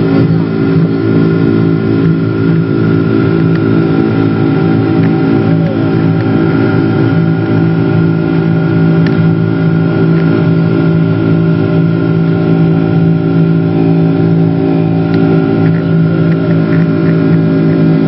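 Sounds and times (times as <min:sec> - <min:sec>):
jet engines droning in cabin: 0:00.0 - 0:18.0.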